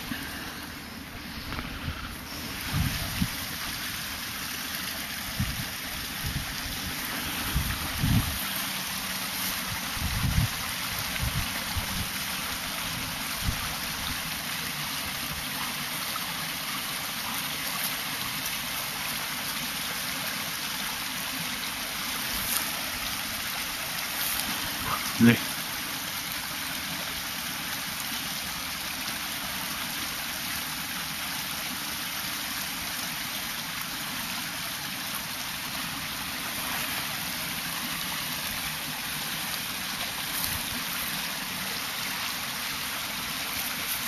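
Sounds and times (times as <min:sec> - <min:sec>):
stream trickling and gurgling: 0:00.0 - 0:44.0.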